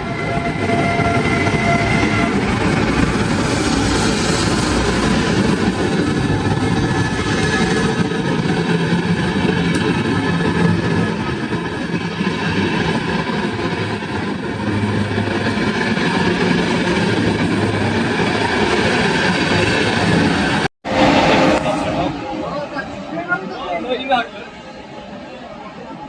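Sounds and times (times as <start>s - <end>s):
train wheels rumbling on rails: 0.0s - 23.5s.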